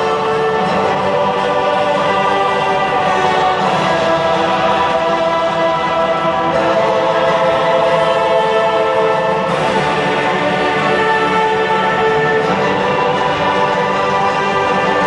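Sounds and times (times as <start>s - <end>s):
orchestral music with choir: 0.0s - 15.0s.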